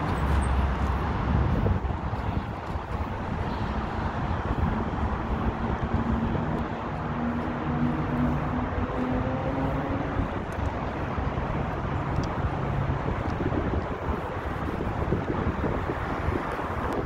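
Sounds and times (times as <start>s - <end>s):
low engine hum: 0.0s - 17.0s
passing road traffic: 0.0s - 17.0s
wind on microphone: 0.0s - 17.0s.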